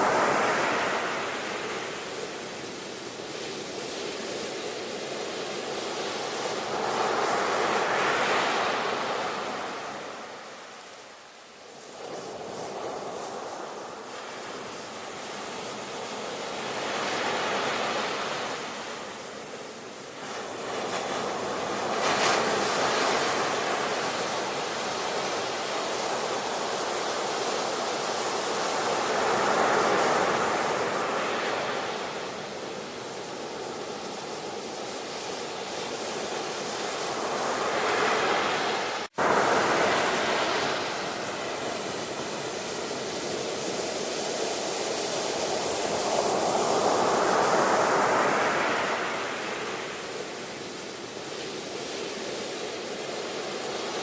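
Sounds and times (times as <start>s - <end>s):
waves breaking and washing in: 0.0s - 54.0s.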